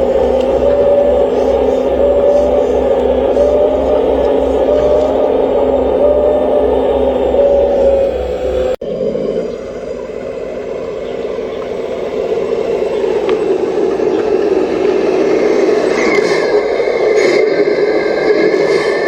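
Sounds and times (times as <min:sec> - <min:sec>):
high machine tone: 0:00.0 - 0:19.0
machine whirring: 0:00.0 - 0:19.0.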